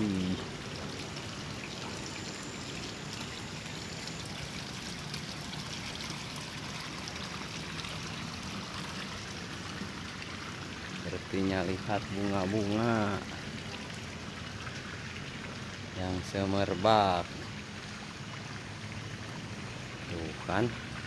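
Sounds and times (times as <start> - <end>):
running water rushing: 0.0 - 21.0.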